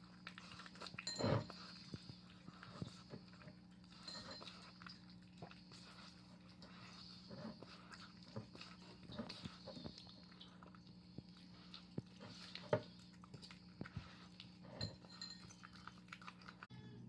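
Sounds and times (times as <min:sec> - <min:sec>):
cats chewing and crunching: 0:00.0 - 0:17.0
steady low hum: 0:00.0 - 0:17.0.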